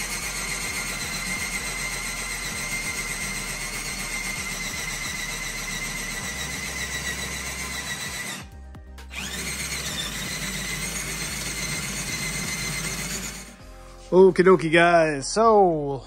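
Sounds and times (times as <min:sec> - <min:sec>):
electric drill drilling steel: 0:00.0 - 0:13.6.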